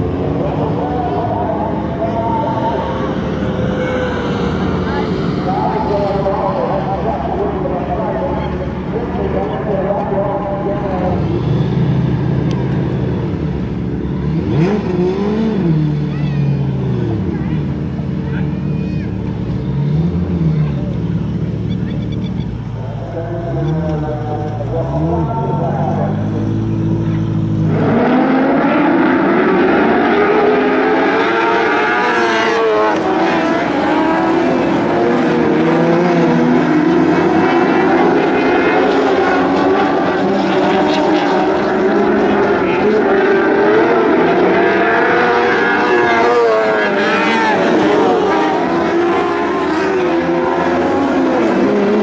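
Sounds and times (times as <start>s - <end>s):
racing car engines revving: 0.0s - 52.0s.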